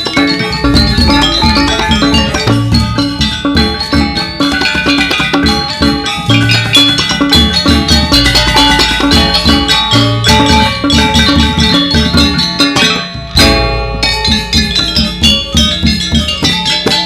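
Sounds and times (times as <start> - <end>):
drum strokes: 0.0 - 17.0
gamelan ensemble: 0.0 - 17.0
ringing metallophone patterns: 0.0 - 17.0.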